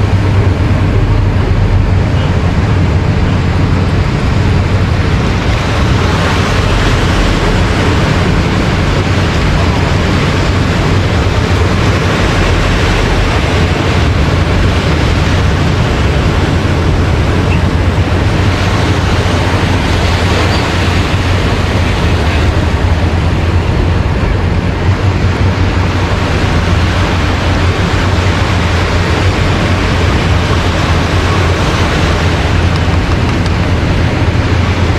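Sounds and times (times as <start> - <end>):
ocean surf: 0.0 - 34.9
wind rumbling on microphone: 0.0 - 34.9.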